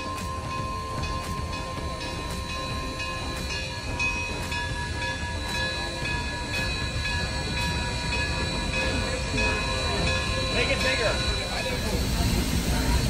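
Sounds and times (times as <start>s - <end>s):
locomotive bell ringing: 0.0s - 13.0s
low locomotive rumble: 0.0s - 13.0s.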